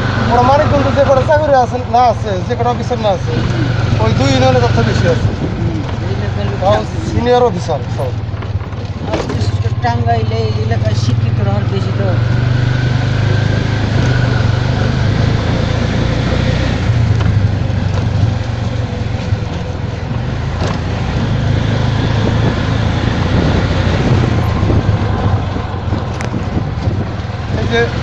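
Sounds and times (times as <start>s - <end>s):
road noise: 0.0s - 28.0s
vehicle engine droning: 0.0s - 28.0s.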